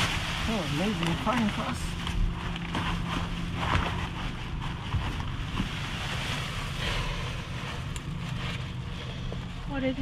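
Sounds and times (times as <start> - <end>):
plastic bags rustling: 0.0 - 9.1.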